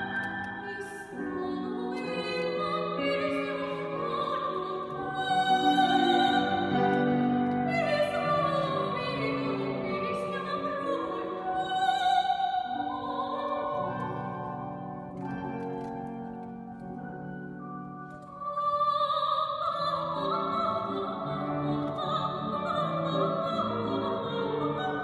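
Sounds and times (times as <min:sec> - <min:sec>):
soprano singing operatic style: 0:00.0 - 0:14.8, 0:18.2 - 0:25.0
grand piano accompaniment: 0:00.0 - 0:25.0.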